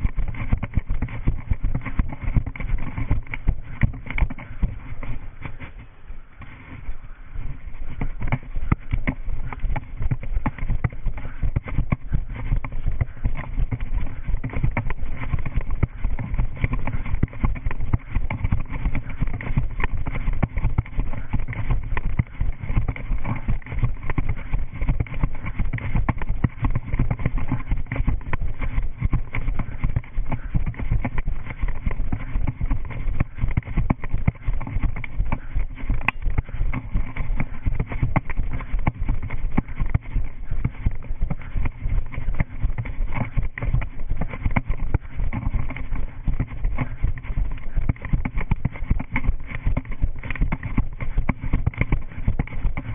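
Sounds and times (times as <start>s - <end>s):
camera housing jolting and rubbing: 0.0s - 52.9s
running footsteps on grass: 0.0s - 52.9s.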